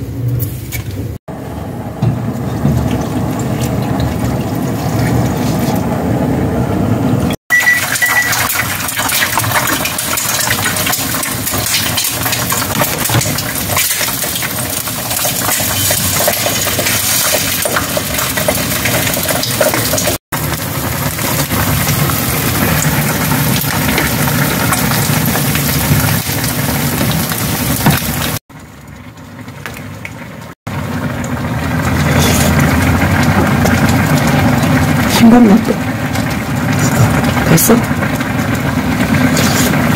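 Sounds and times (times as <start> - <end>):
eggs sizzling in oil: 7.5 - 39.9.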